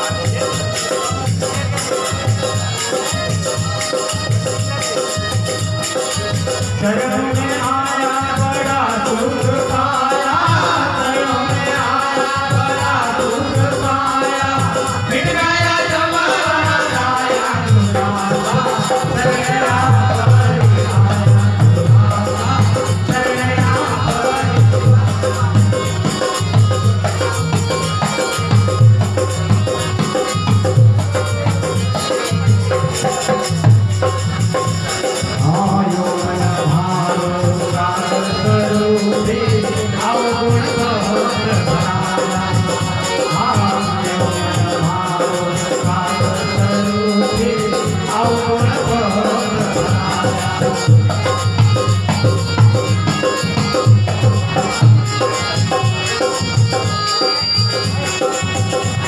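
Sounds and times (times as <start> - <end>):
hand drums: 0.0 - 59.0
harmonium: 0.0 - 59.0
man singing: 0.0 - 59.0.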